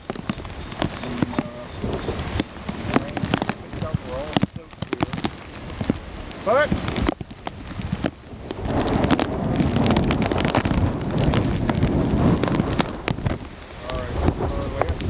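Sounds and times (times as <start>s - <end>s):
heavy rain: 0.0s - 15.0s
raindrops ticking: 0.0s - 15.0s
wind buffeting microphone: 0.0s - 15.0s.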